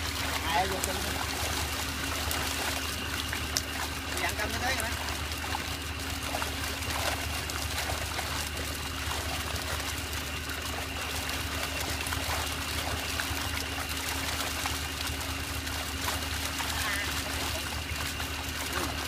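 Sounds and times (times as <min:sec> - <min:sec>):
fish splashing in water: 0:00.0 - 0:19.0
steady low hum: 0:00.0 - 0:19.0.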